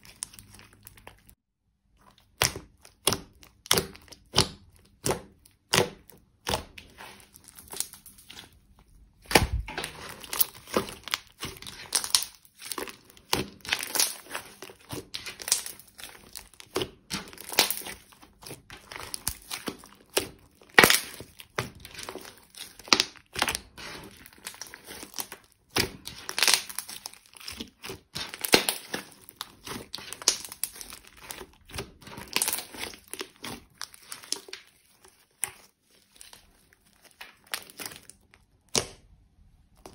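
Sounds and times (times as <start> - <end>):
slime clicking and popping: 2.2 - 6.8, 9.2 - 34.6, 37.0 - 39.2.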